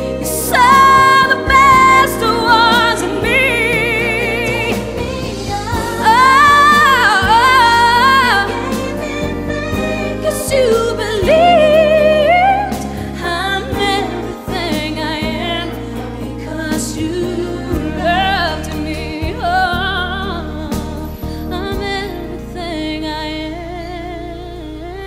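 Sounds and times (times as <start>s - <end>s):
instrumental backing: 0.0s - 25.0s.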